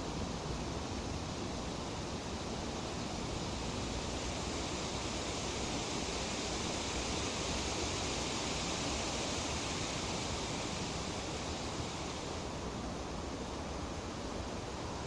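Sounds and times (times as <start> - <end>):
wind rustling tree leaves: 0.0 - 15.0.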